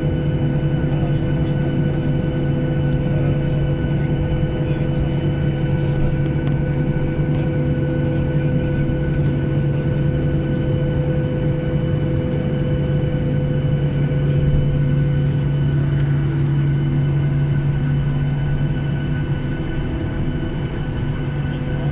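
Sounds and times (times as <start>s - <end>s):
vehicle engine drone: 0.0s - 21.9s.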